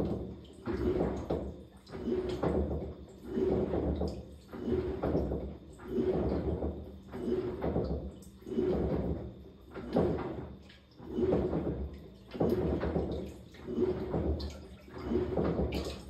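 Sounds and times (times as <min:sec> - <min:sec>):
low motor hum: 0:00.0 - 0:16.0
washing machine water sloshing: 0:00.0 - 0:16.0.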